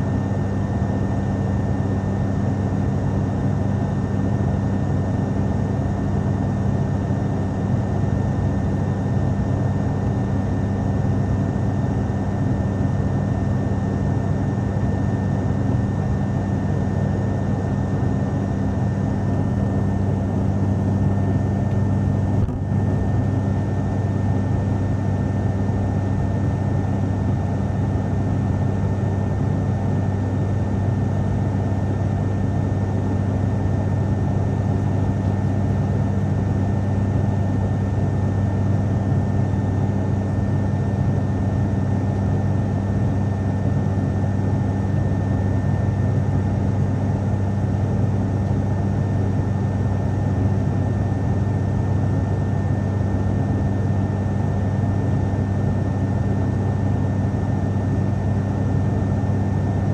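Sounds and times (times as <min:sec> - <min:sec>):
airliner propeller and engine hum: 0:00.0 - 0:59.9.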